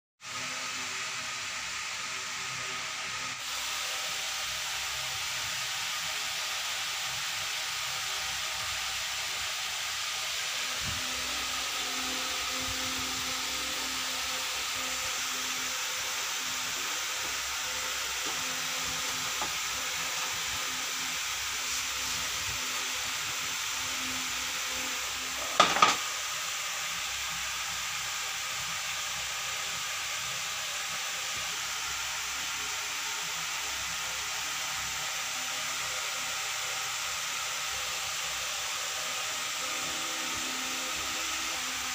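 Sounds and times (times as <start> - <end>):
steady hiss: 0.3 - 41.9.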